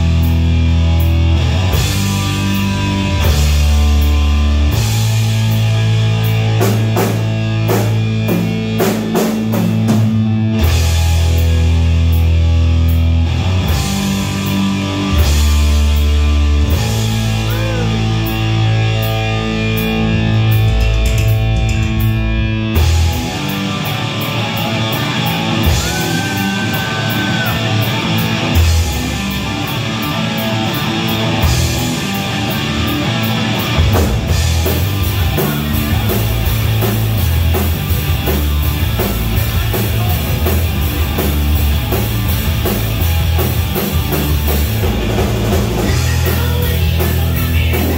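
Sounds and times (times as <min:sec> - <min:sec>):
bass guitar: 0:00.0 - 0:47.9
distorted electric guitar: 0:00.0 - 0:47.9
drum kit: 0:00.0 - 0:47.9.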